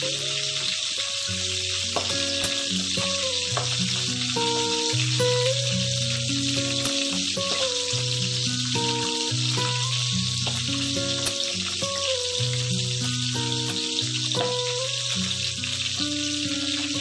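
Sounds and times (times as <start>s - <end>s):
fish frying in hot oil: 0.0s - 17.0s
slow music with held notes: 0.0s - 17.0s.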